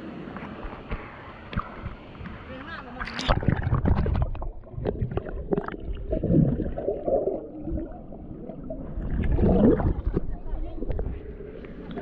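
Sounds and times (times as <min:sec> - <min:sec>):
stream water sloshing and gurgling: 0:00.2 - 0:12.0.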